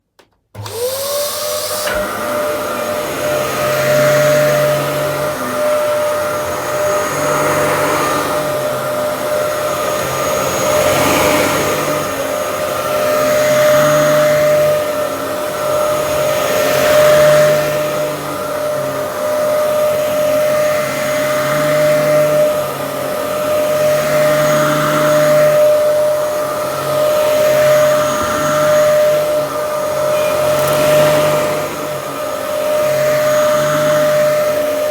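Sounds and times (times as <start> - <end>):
vacuum cleaner motor whine: 0.6 - 34.9.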